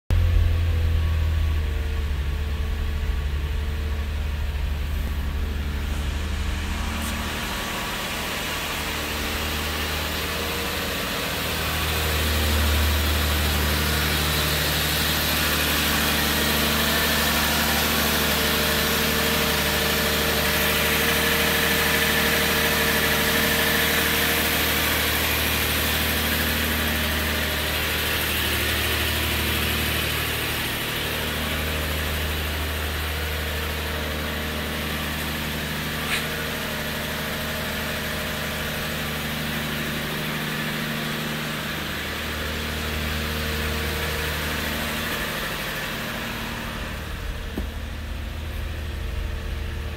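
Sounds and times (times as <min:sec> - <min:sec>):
car engine idling: 0:00.1 - 0:49.9.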